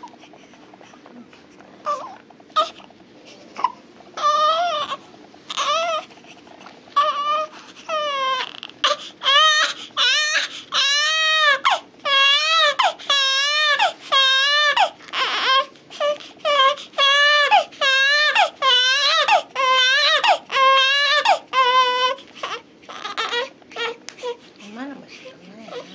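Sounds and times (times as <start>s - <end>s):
infant crying: 1.8s - 2.8s, 3.6s - 6.1s, 7.0s - 24.4s.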